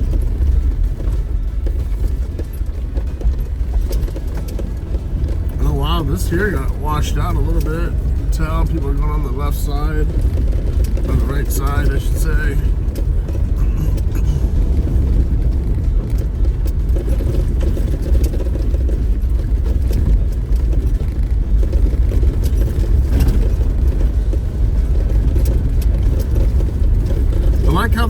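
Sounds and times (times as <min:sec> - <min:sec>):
vehicle engine and tyres rumbling: 0:00.0 - 0:28.0.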